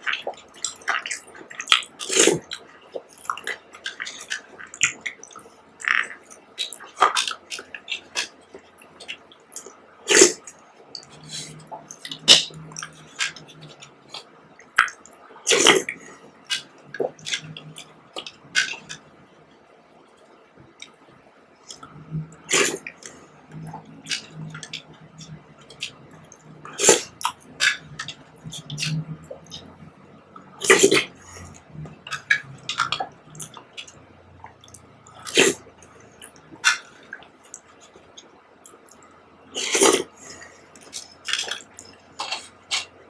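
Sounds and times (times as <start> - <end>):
wet eating mouth sounds: 0.0 - 19.1, 21.6 - 43.0.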